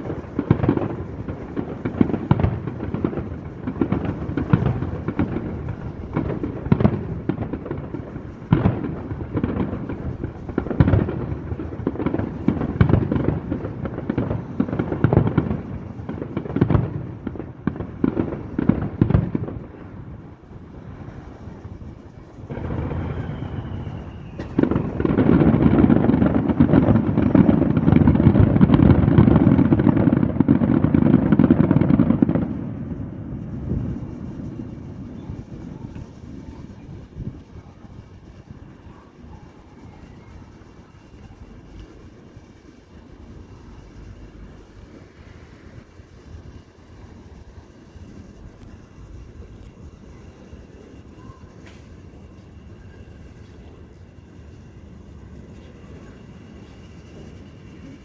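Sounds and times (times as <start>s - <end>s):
firework whistle: 0.0s - 58.0s
fireworks shell bursts: 0.0s - 58.0s.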